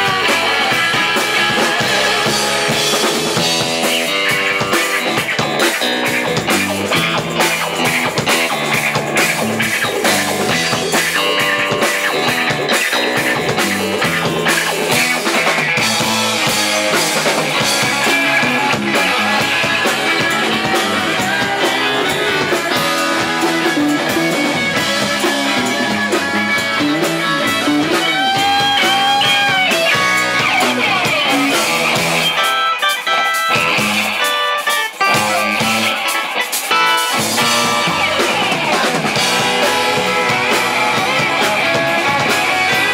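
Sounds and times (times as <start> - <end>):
drum kit: 0.0 - 42.9
electric guitars: 0.0 - 42.9
electric keyboard: 0.0 - 42.9.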